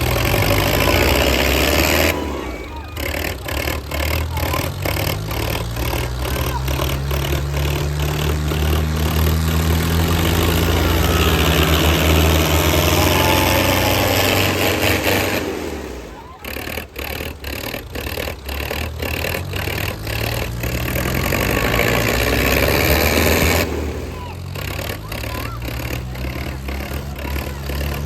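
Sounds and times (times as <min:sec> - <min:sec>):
tractor diesel engine under load: 0:00.0 - 0:28.0.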